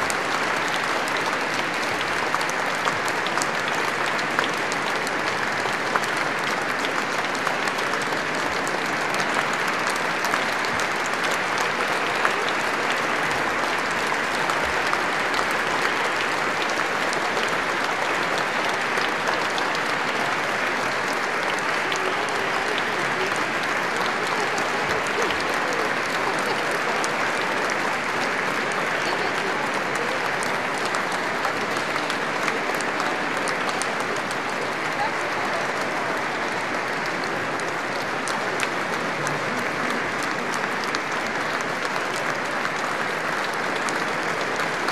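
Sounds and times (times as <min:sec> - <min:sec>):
audience applauding: 0:00.0 - 0:44.9.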